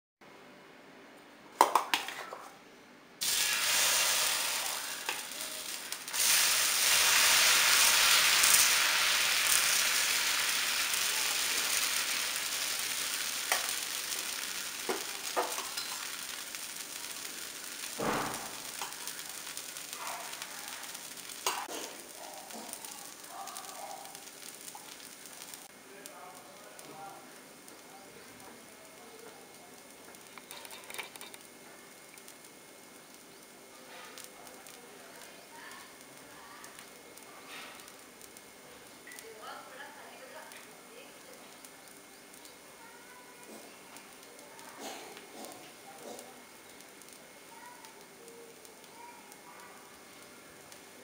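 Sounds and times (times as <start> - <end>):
batter sizzling on a hot pan: 3.2 - 51.0.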